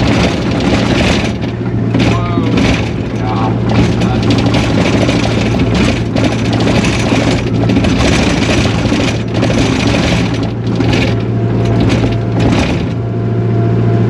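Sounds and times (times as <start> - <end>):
clattering rattle: 0.0 - 13.1
diesel engine running: 0.0 - 14.0.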